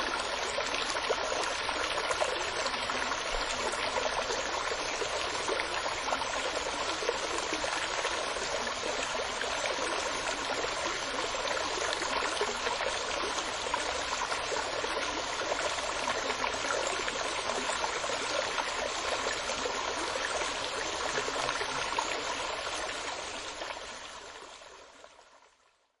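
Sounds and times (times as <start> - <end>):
running water: 0.0 - 25.3.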